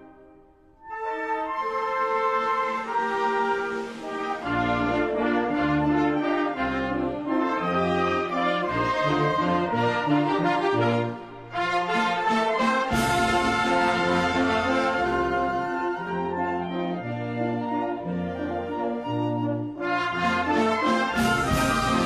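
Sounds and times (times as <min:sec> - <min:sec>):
brass band slow melody: 0:00.0 - 0:22.0.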